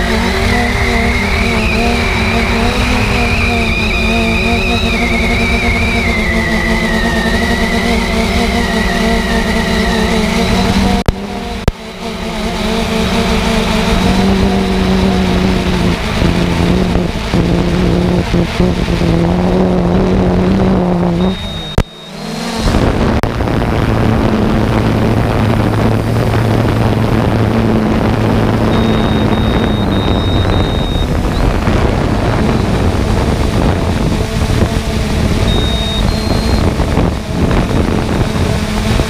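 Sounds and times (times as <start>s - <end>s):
broad rushing noise: 0.0s - 39.0s
motor running: 0.0s - 39.0s.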